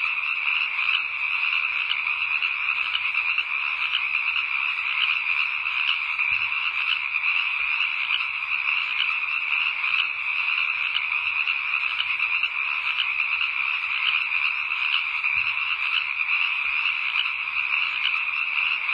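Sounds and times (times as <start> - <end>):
frogs calling: 0.0 - 18.9.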